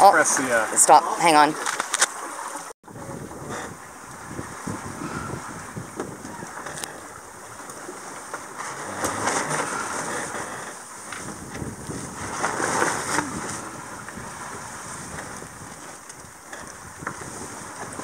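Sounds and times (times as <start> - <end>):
water rushing along hull: 0.0 - 18.0
wind buffeting microphone: 2.8 - 18.0.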